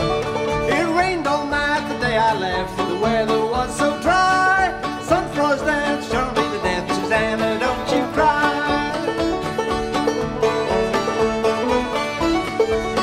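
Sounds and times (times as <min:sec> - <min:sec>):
music with quickly picked notes: 0:00.0 - 0:13.0.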